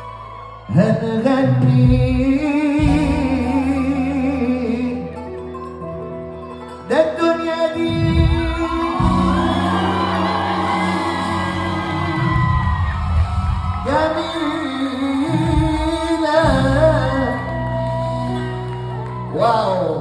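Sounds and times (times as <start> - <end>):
live band playing: 0.0 - 20.0
man singing into microphone: 0.6 - 5.4, 6.8 - 18.4, 19.2 - 20.0.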